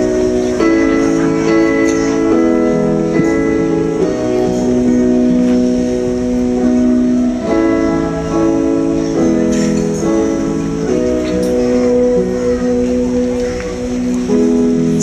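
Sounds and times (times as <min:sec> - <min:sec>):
plucked-string worship music chords: 0:00.0 - 0:15.0.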